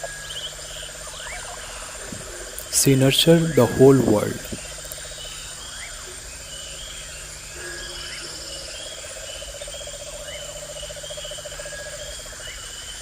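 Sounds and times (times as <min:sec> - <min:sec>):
birds calling: 0:00.0 - 0:13.0
fast pulsing frog or insect trill: 0:00.2 - 0:13.0.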